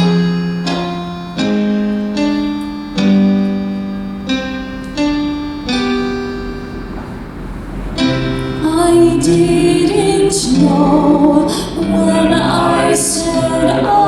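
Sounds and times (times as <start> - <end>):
slow instrumental ballad chords: 0.0 - 14.0.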